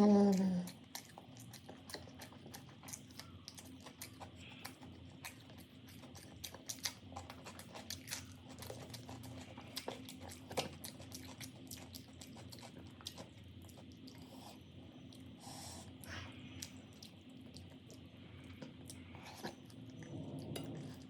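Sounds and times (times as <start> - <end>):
soft chewing with wet mouth clicks: 0.0 - 21.0.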